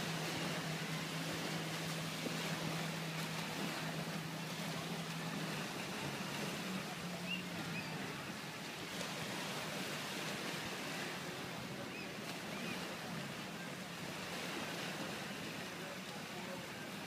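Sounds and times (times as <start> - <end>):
faint motorboat hum: 0.0 - 17.0
gentle surf on sand: 0.0 - 17.0.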